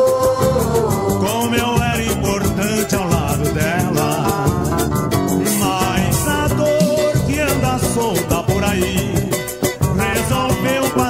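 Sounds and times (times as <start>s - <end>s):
samba music: 0.0s - 11.0s.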